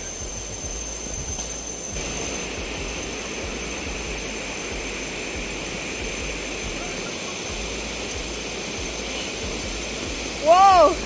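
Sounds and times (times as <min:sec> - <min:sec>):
bright hiss: 0:00.0 - 0:11.0
waterfall roaring: 0:01.9 - 0:11.0.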